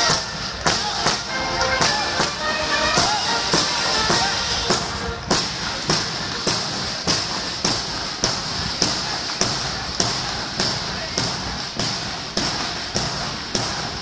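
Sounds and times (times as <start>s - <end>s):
boots marching on road: 0.0s - 14.0s.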